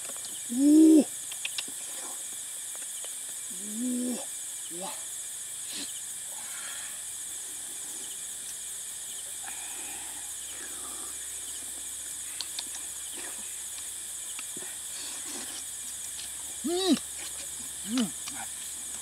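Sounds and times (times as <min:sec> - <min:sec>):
high-pitched insect chorus: 0:00.0 - 0:19.0
faint chirps: 0:00.1 - 0:19.0.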